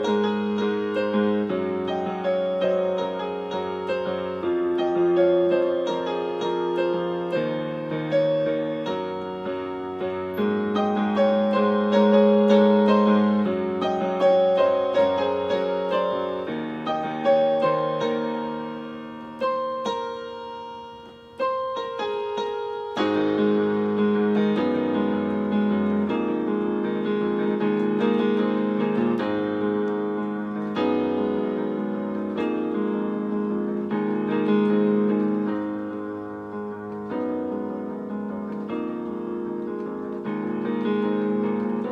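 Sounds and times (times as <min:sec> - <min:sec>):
electronic keyboard piano piece: 0:00.0 - 0:41.9.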